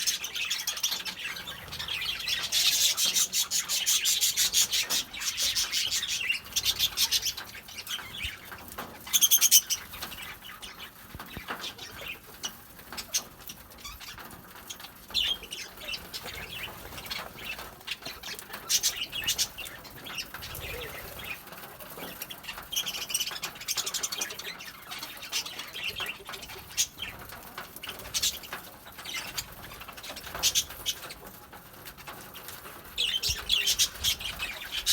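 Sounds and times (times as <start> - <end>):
lovebirds chirping and squawking: 0.0 - 34.9.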